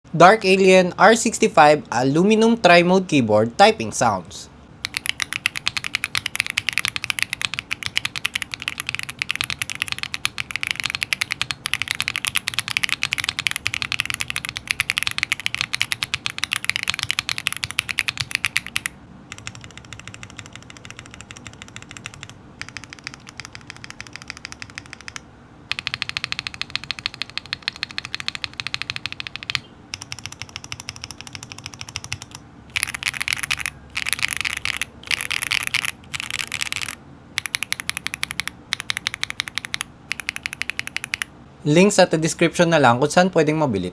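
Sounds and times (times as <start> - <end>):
fast keyboard typing: 4.8 - 41.3.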